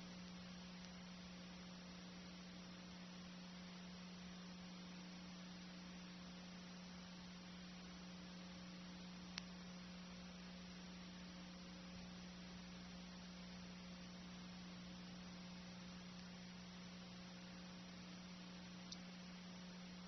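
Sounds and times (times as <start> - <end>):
faint hiss: 0.0 - 20.0
low electrical hum: 0.0 - 20.0.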